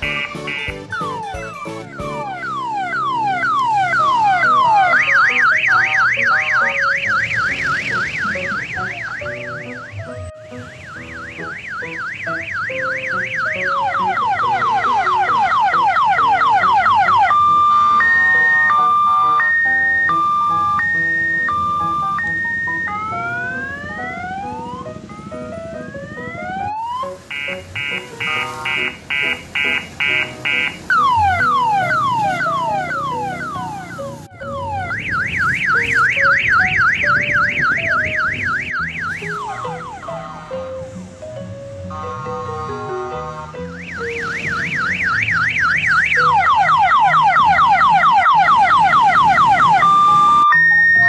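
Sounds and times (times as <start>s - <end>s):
electronic siren horn: 0.0s - 25.3s, 26.1s - 40.8s, 41.9s - 51.0s.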